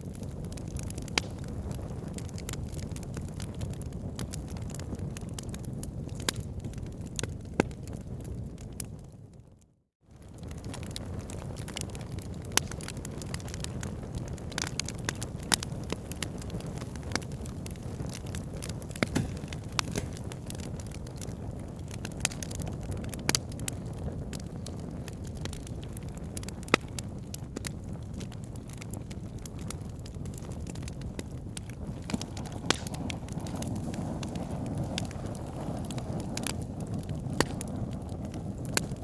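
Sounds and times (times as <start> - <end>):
wood fire crackling: 0.0 - 9.1, 10.2 - 39.0
sharp pops of burning wood: 0.1 - 8.0, 10.2 - 39.0.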